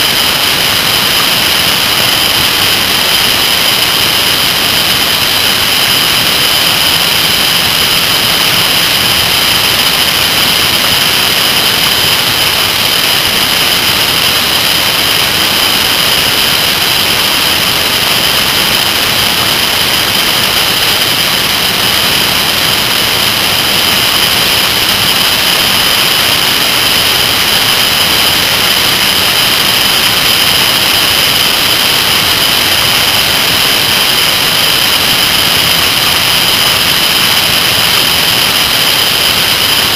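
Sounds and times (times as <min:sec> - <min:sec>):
constant high whine: 0:00.0 - 0:39.9.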